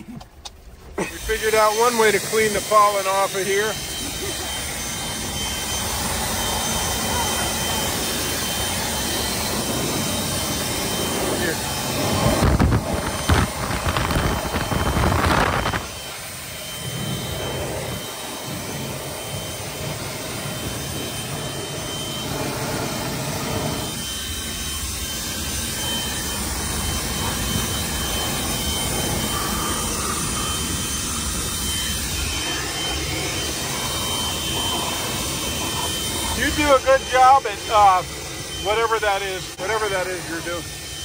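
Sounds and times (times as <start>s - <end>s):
leaf blower running: 0.0s - 41.0s.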